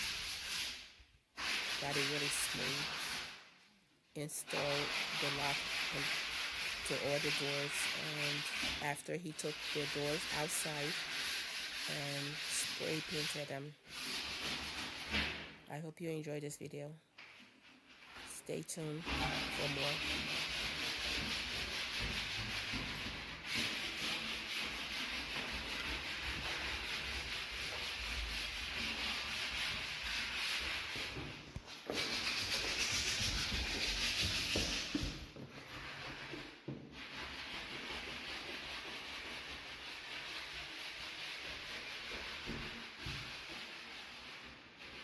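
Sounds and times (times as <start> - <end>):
sandpaper scratching on wood: 0.0 - 3.5, 4.2 - 15.5, 18.0 - 45.0.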